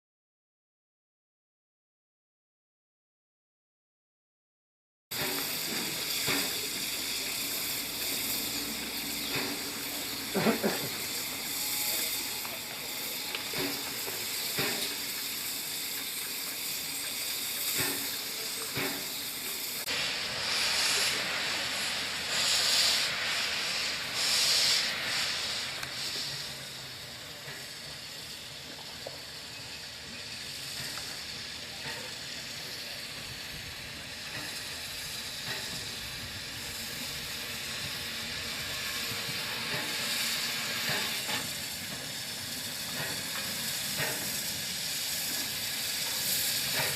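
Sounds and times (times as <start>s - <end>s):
steam locomotive hissing: 5.1s - 46.9s.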